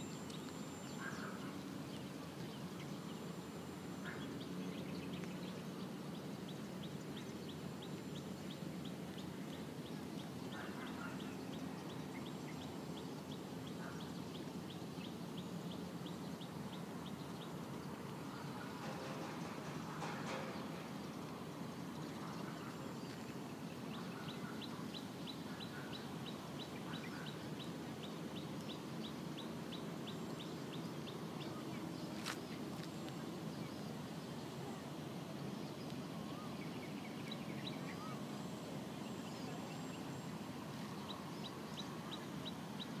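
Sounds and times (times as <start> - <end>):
low outdoor background noise: 0.0 - 43.0.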